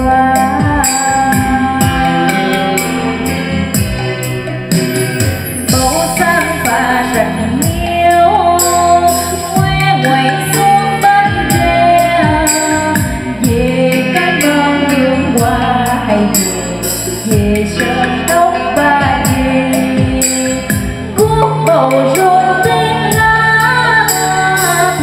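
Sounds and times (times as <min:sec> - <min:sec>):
woman singing into microphone: 0:00.0 - 0:04.4, 0:05.6 - 0:25.0
karaoke backing track: 0:00.0 - 0:25.0.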